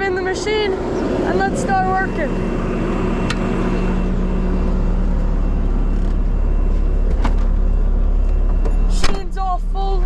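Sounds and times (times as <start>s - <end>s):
skid steer engine running: 0.0s - 10.0s.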